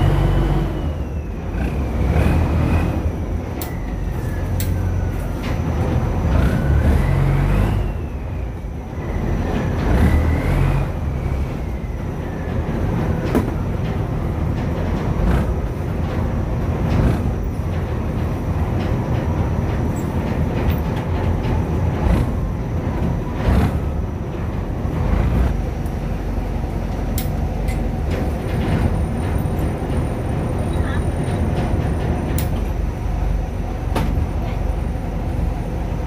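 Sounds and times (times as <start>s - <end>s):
boat engine rumbling: 0.0s - 36.0s.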